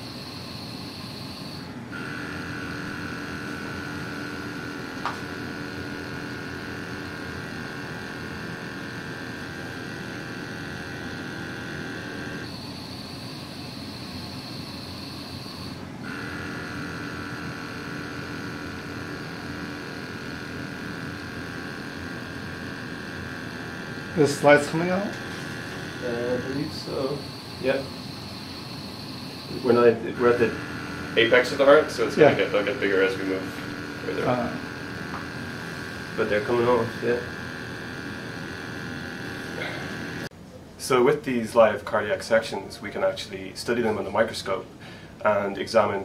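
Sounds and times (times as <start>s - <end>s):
vibrating blade electric hum: 0.0s - 46.0s.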